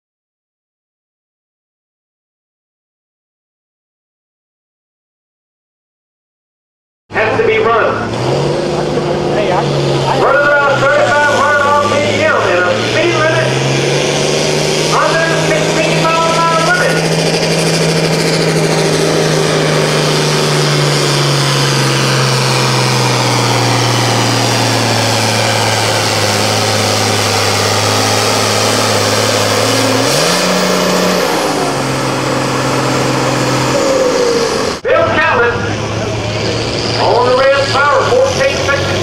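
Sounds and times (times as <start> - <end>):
tractor diesel engine at full throttle: 7.1 - 39.0.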